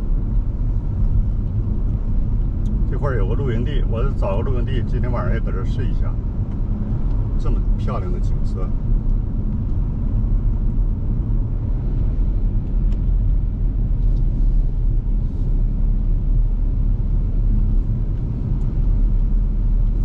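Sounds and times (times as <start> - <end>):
vehicle road rumble: 0.0 - 20.0.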